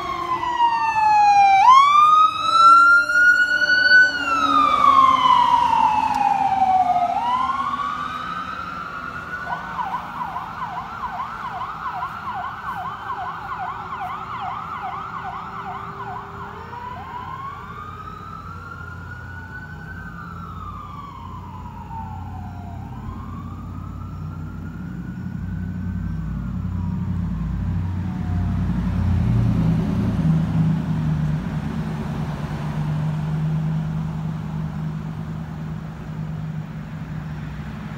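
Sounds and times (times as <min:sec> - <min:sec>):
ambulance siren: 0:00.0 - 0:37.9
low rumble of passing cars: 0:00.0 - 0:37.9.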